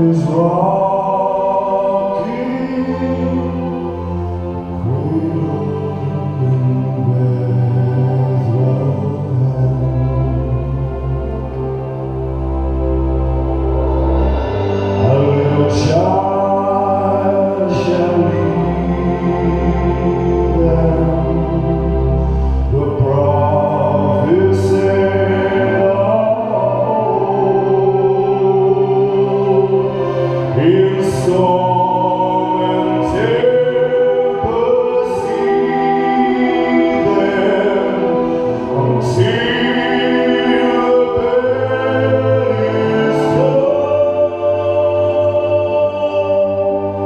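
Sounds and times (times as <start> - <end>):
man singing slow song: 0.0 - 12.0, 14.2 - 47.0
symphony orchestra: 0.0 - 47.0.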